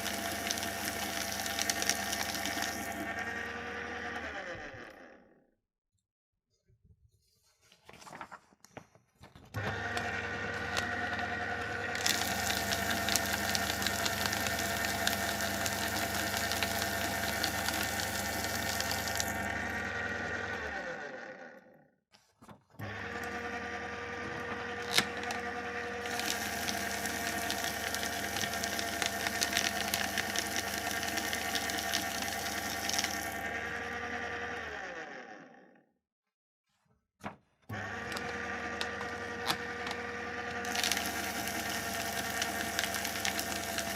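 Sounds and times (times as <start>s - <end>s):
paper shredding rasp: 0.0s - 5.0s, 9.6s - 21.4s, 22.2s - 35.4s, 37.7s - 43.9s
paper shredder motor humming: 0.0s - 5.4s, 9.6s - 21.9s, 22.7s - 35.9s, 37.7s - 43.9s.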